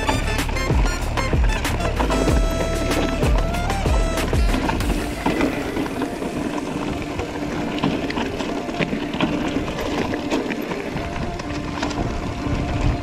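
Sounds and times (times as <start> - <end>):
bike tyres rolling on rocky trail: 0.0 - 13.0.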